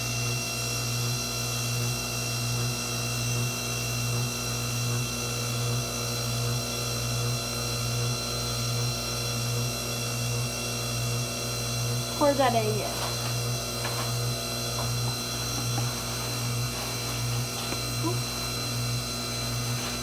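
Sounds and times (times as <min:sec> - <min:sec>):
pasta maker motor humming: 0:00.0 - 0:20.0.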